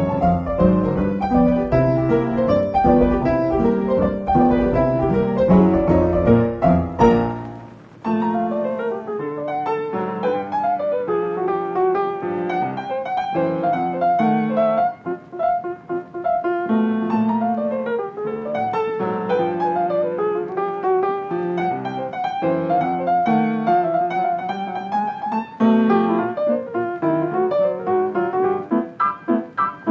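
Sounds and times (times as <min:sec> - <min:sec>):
piano music: 0:00.0 - 0:29.9.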